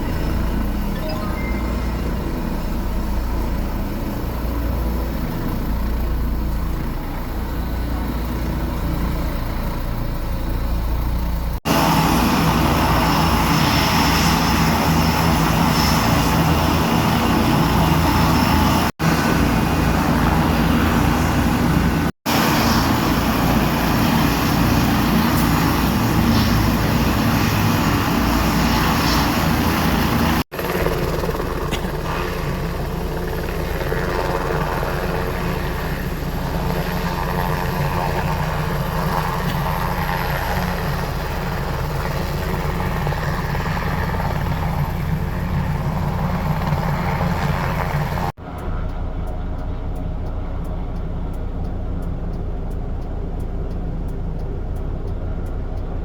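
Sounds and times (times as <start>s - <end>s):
aircraft engine droning: 0.0s - 56.0s.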